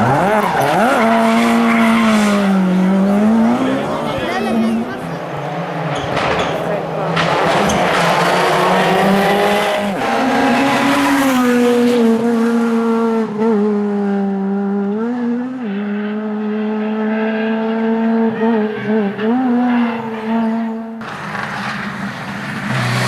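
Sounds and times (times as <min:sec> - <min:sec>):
rally car engine passing: 0:00.0 - 0:23.0.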